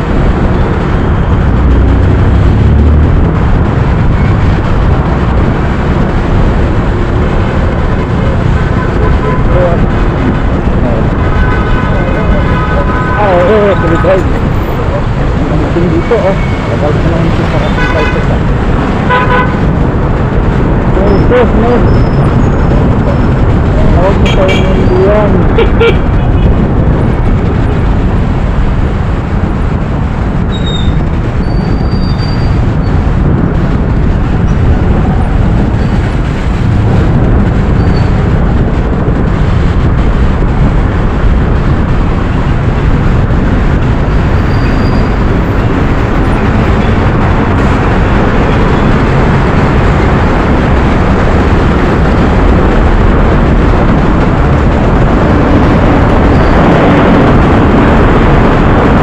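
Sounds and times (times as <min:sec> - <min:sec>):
road traffic: 0:00.0 - 0:59.0
wind rushing over microphone: 0:00.0 - 0:59.0.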